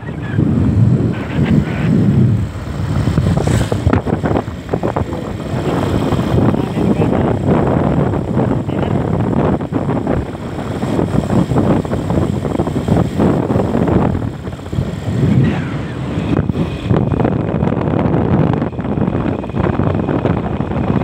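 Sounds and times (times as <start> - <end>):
road noise: 0.0 - 21.0
vehicle engine: 0.0 - 21.0
wind buffeting microphone: 0.0 - 21.0.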